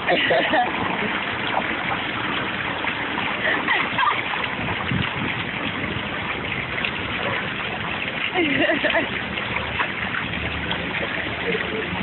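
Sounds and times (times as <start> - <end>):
water fountain splashing: 0.0 - 12.0.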